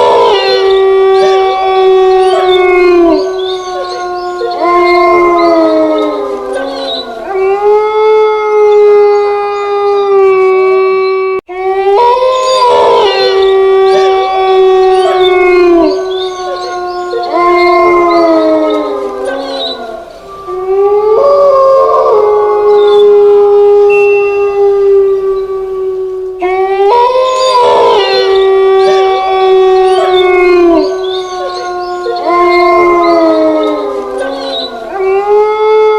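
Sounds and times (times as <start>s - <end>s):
wolves howling: 0.0s - 35.9s.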